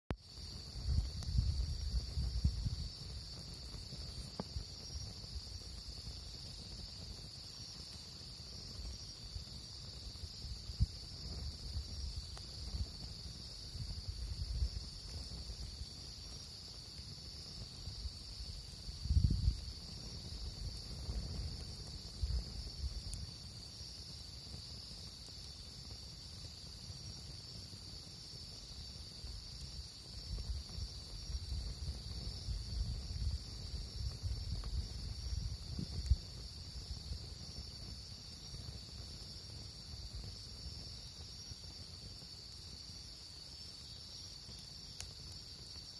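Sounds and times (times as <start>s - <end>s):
insects chirping: 0.2s - 45.9s.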